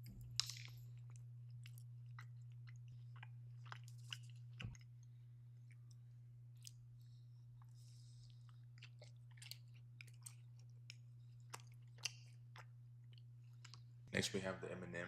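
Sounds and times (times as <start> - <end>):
person chewing cookie: 0.0 - 14.0
steady low hum: 0.0 - 15.0.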